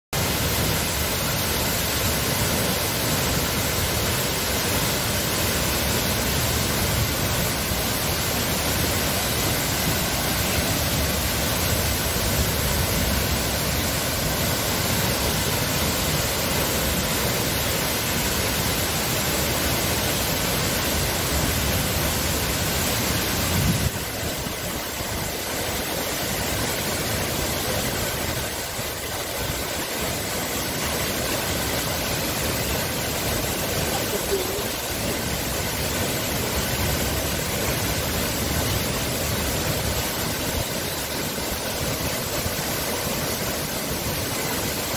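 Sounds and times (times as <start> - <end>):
waterfall rushing: 0.2 - 44.9.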